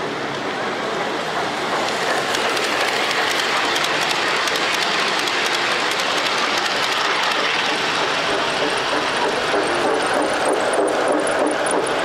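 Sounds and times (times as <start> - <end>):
model train wheels clicking: 1.2 - 12.0.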